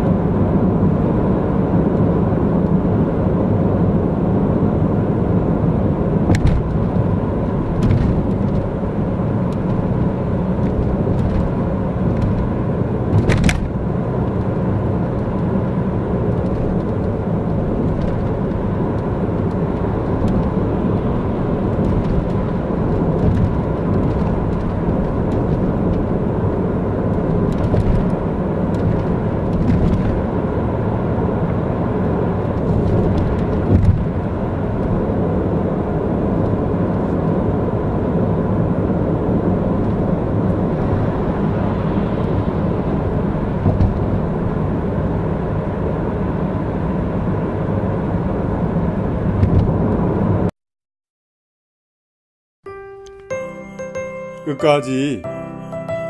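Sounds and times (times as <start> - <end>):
car engine and tyre noise: 0.0 - 50.5.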